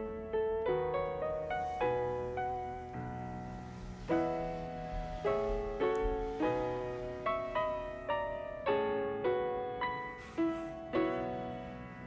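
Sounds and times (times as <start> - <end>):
gentle solo piano chords: 0.0 - 12.0.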